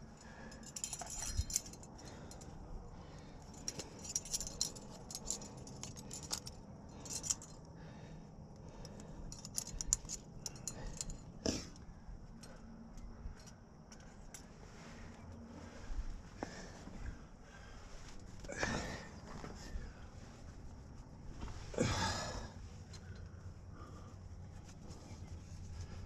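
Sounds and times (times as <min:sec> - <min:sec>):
metal climbing gear clinking: 0:00.0 - 0:15.4, 0:18.0 - 0:20.5, 0:21.3 - 0:26.0.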